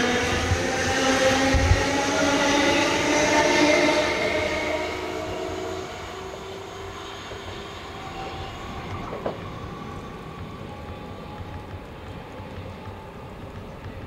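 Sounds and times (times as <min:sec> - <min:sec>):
train rumbling on track: 0:00.0 - 0:14.0
train traction motor whine: 0:00.0 - 0:14.0.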